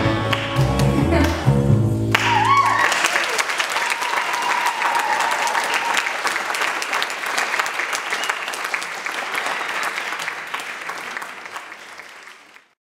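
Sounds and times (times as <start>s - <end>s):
audience applauding: 0.1s - 1.5s, 2.1s - 12.8s.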